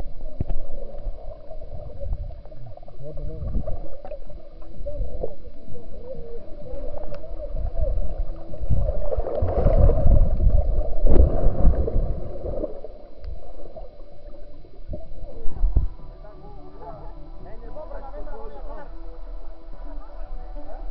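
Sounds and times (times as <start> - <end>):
underwater churning and bubbling: 0.0 - 20.9.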